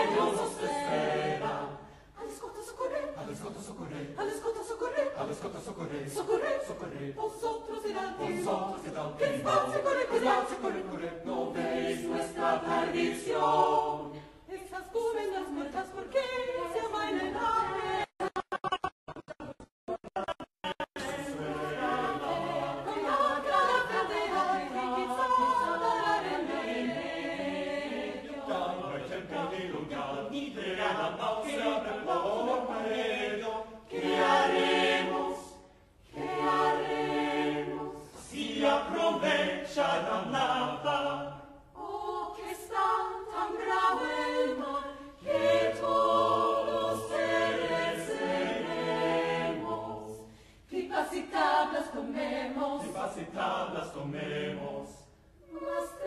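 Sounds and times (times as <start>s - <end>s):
mixed choir singing a cappella: 0.0s - 18.1s, 20.9s - 56.0s.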